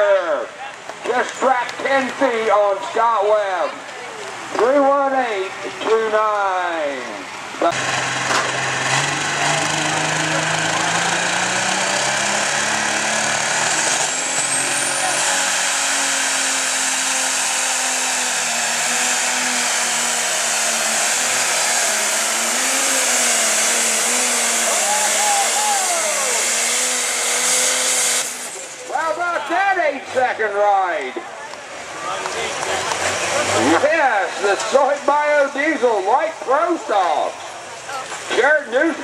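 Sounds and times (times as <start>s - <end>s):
diesel tractor engine under load: 5.5s - 39.0s.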